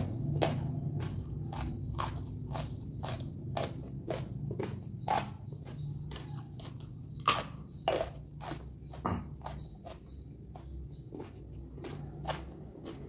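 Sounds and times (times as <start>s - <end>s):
person chewing crunchy vegetables: 0.0s - 13.0s.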